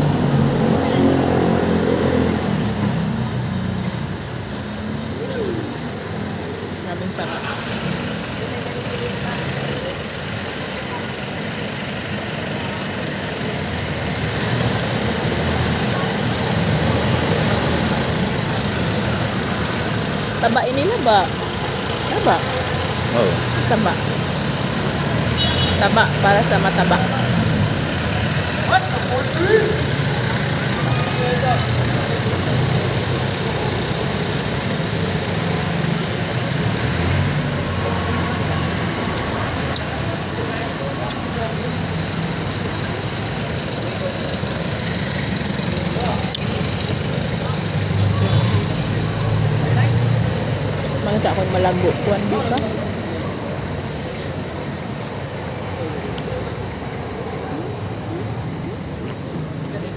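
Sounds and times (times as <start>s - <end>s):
outdoor traffic noise: 0.0s - 59.9s
vehicle engine running: 0.0s - 59.9s.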